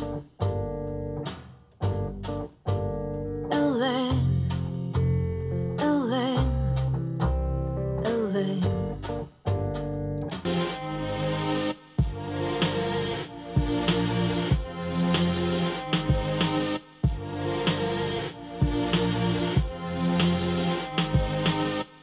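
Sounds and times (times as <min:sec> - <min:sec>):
song with guitar and vocals: 0:03.4 - 0:22.0.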